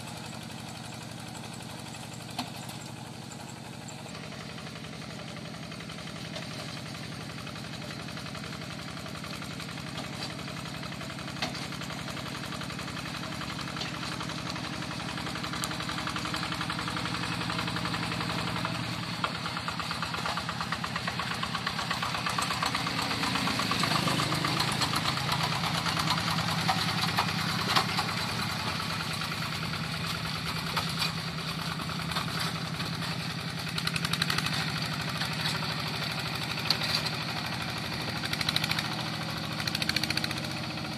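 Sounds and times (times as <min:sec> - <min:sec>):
diesel engine chugging: 0:00.0 - 0:40.9.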